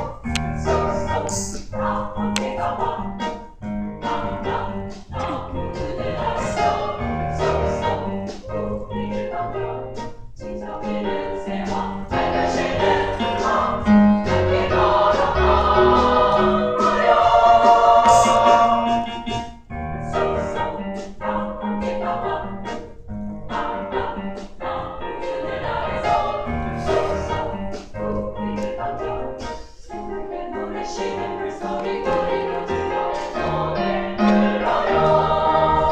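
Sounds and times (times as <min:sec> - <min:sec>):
women's choir singing: 0:00.0 - 0:19.5, 0:20.1 - 0:29.4, 0:30.0 - 0:35.9.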